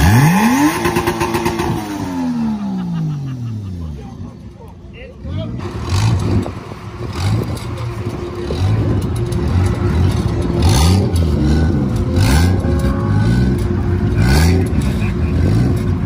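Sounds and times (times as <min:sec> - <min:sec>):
turbocharged engine revving: 0:00.0 - 0:03.6, 0:05.4 - 0:16.0.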